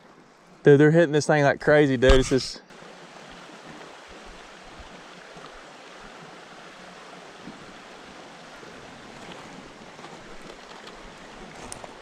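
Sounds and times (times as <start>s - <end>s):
creek water rushing: 2.1s - 12.0s.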